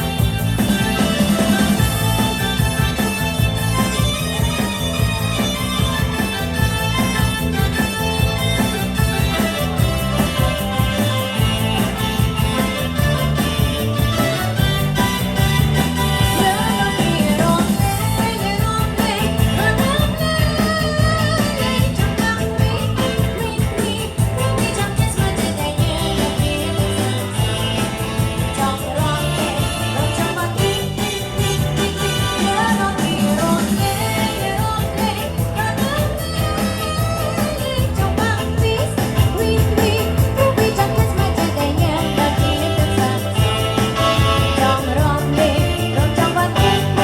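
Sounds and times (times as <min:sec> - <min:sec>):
guitar: 0:00.0 - 0:47.0
steady drum beat: 0:00.0 - 0:47.0
woman singing: 0:00.0 - 0:47.0.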